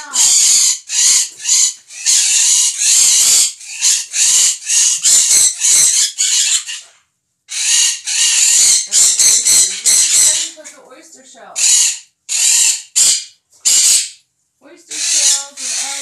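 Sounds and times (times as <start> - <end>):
parrots screaming: 0.0 - 10.7, 11.5 - 14.2, 14.9 - 16.0.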